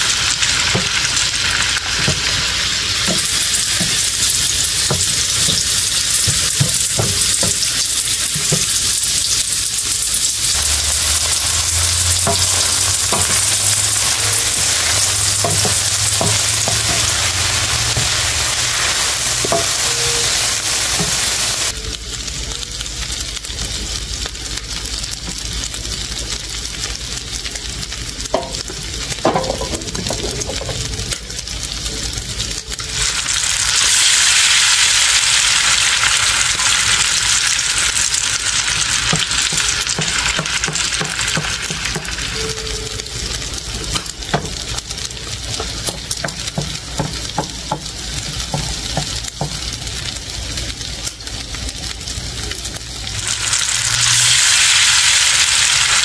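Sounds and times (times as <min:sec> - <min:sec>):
food sizzling in a frying pan: 0:00.0 - 0:56.0.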